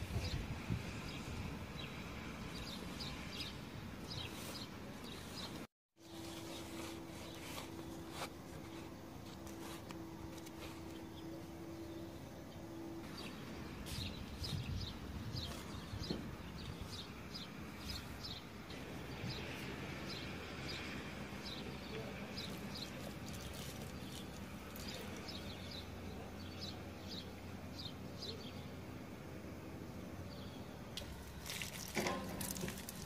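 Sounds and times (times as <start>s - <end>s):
small birds chirping: 0.1s - 28.9s.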